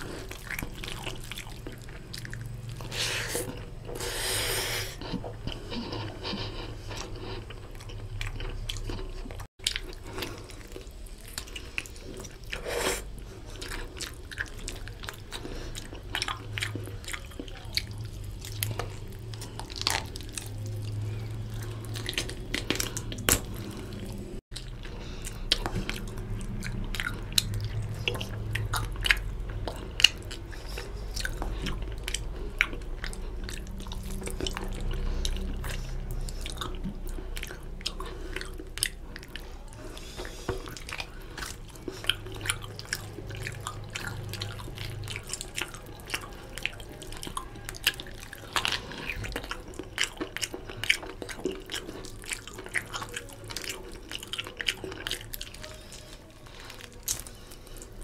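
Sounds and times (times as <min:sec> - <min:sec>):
chewing and biting meat: 0:00.0 - 0:58.0.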